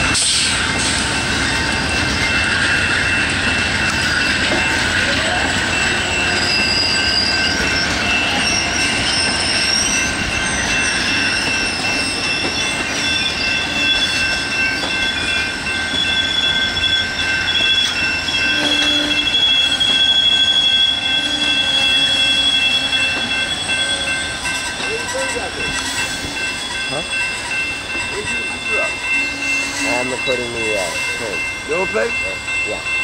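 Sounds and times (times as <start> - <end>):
train wheels rolling: 0.0 - 33.0
train wheels squealing on rails: 0.0 - 33.0.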